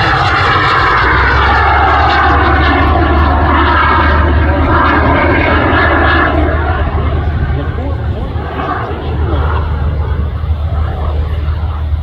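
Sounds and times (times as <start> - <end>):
low rumble: 0.0 - 12.0
small jet engine whine: 0.0 - 12.0.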